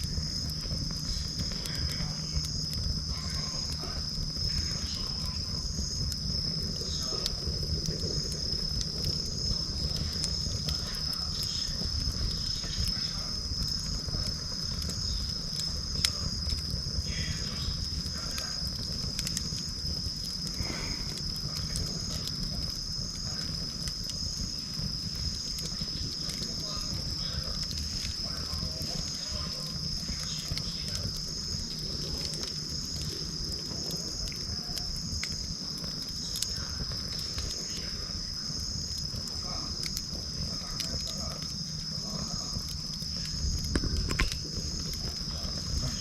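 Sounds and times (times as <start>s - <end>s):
campfire crackling and popping: 0.0s - 46.0s
insects chirping: 0.0s - 46.0s.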